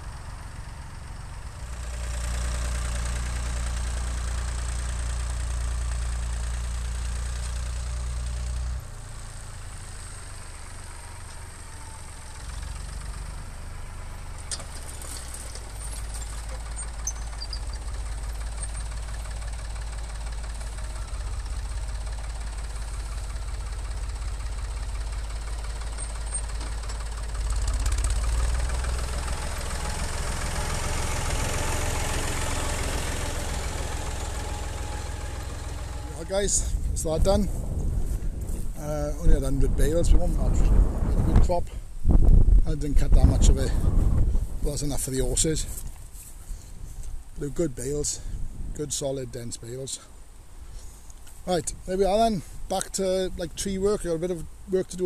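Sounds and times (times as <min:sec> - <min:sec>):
tractor diesel engine running: 0:00.0 - 0:42.0, 0:42.6 - 0:55.0.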